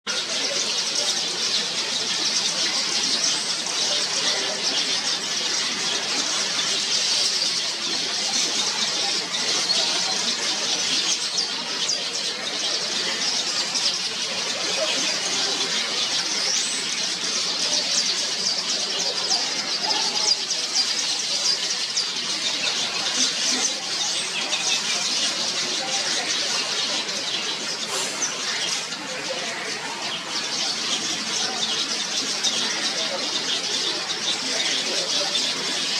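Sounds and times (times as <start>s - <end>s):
weaver birds chattering: 0.1s - 35.9s.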